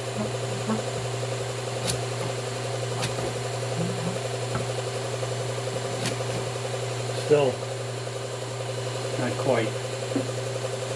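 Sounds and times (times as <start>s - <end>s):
electric motor humming: 0.0s - 10.7s.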